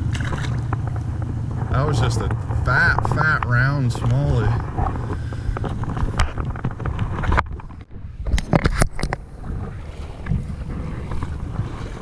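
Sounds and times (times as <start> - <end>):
creek water splashing: 0.0 - 7.8, 9.2 - 12.0
rumble of moving water: 0.0 - 12.0
wind on the microphone: 0.0 - 12.0.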